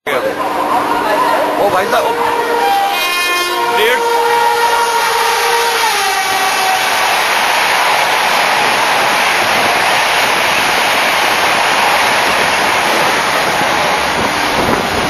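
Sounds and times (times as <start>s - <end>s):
train rushing past: 0.1s - 15.0s.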